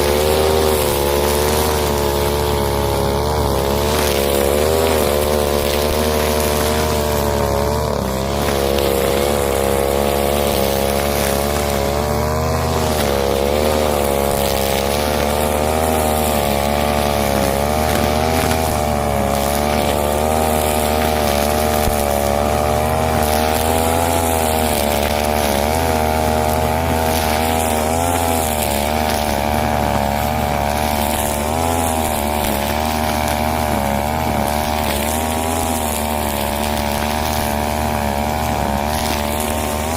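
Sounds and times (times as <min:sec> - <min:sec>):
brush cutter running at high revs: 0:00.0 - 0:39.9.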